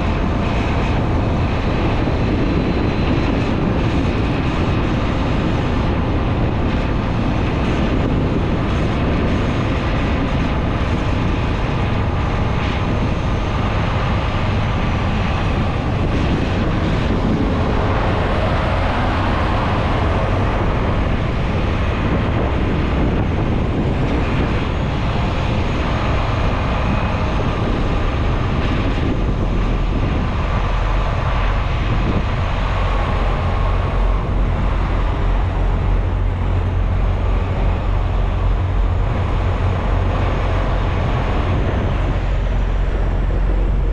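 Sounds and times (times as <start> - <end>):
diesel engine and road noise: 0.0 - 43.9.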